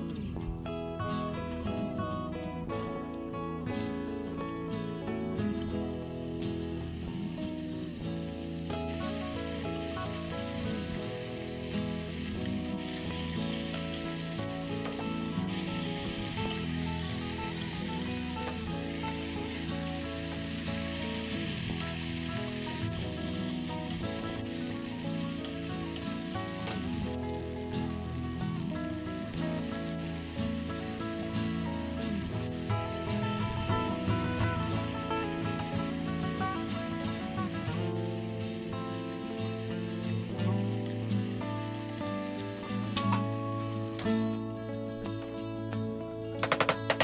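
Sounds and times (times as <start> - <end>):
background music: 0.0 - 47.0
beef sizzling in frying pan: 4.8 - 44.4.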